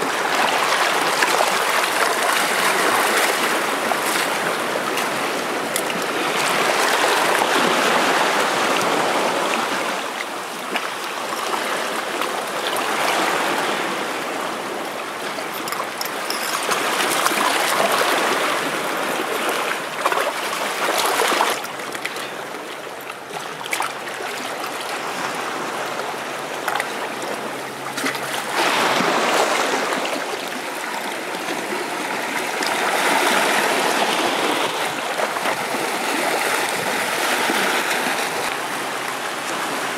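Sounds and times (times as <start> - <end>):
water splashing over rocks: 0.0 - 39.9.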